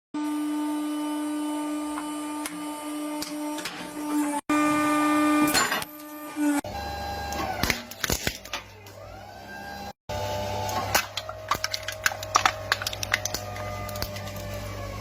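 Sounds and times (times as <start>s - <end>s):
hydraulic machine whining: 0.2s - 15.0s.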